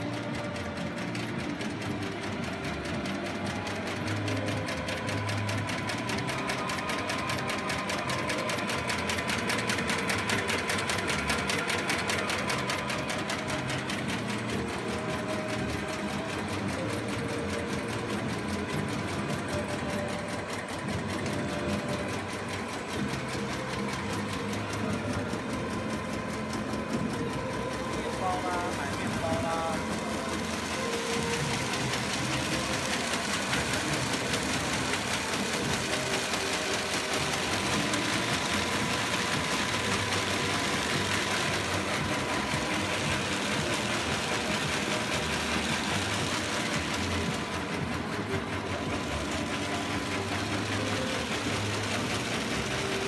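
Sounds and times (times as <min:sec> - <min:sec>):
machine clattering steadily: 0:00.0 - 0:53.0.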